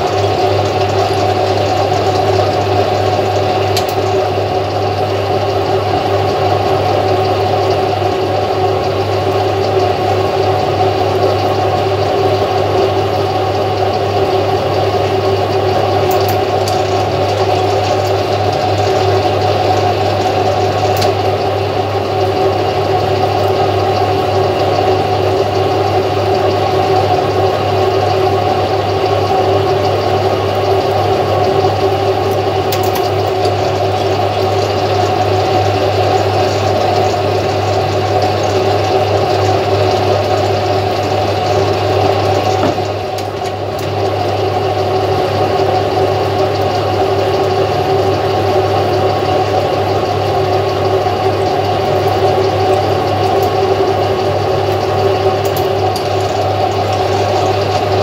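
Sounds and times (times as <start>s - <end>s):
metal lathe motor humming: 0.0s - 58.0s.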